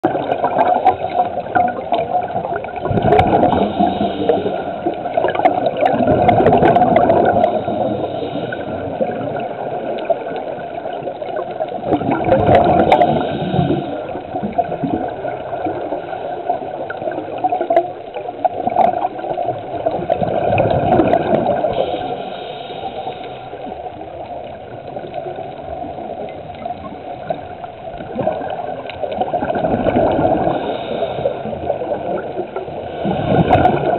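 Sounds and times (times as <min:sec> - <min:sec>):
exhaled bubbles gurgling underwater: 0:00.0 - 0:33.9
rush of water: 0:00.0 - 0:33.9.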